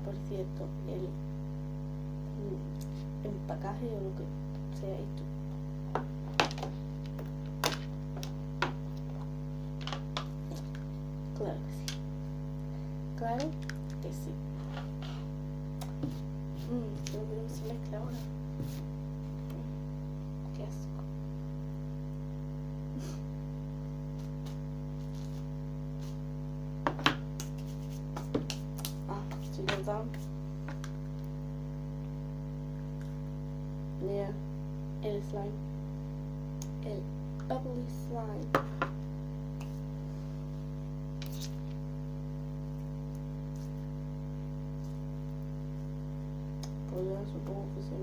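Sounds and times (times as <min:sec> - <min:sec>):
electrical mains hum: 0:00.0 - 0:48.0.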